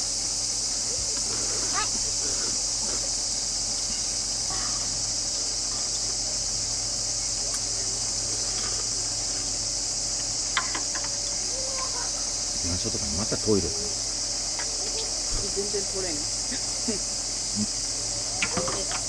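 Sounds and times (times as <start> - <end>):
insects buzzing chorus: 0.0 - 19.0.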